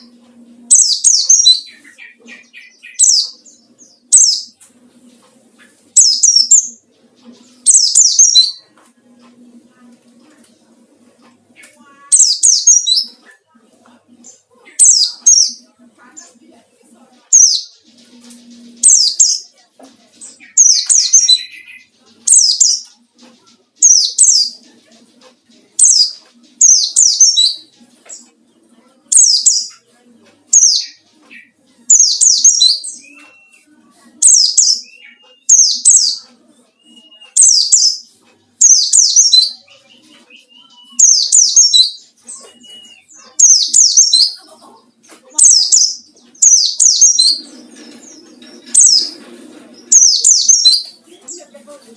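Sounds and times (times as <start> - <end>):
small bird chirping: 0.0 - 10.5, 11.2 - 13.5, 14.1 - 51.9.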